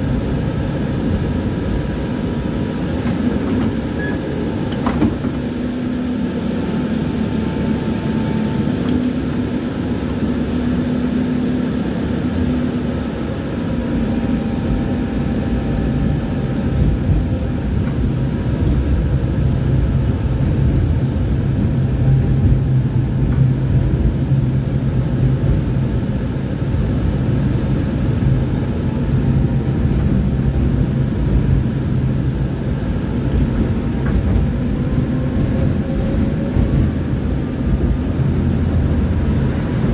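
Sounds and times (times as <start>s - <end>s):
tram rumbling on rails: 0.0s - 39.9s.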